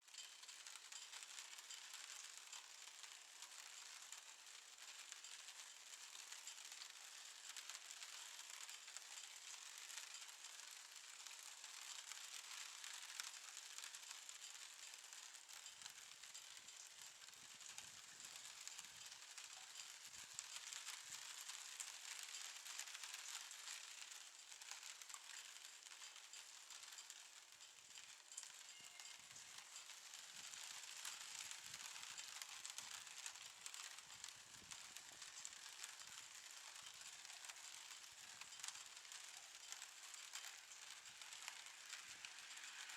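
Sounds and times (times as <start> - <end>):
light rain pattering: 0.0 - 42.9.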